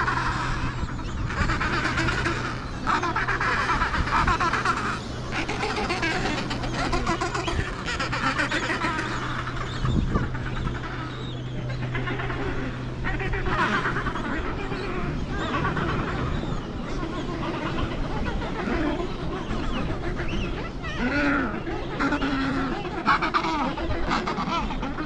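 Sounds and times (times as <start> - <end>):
penguins chattering calls: 0.0 - 25.0
steady low hum: 0.0 - 25.0.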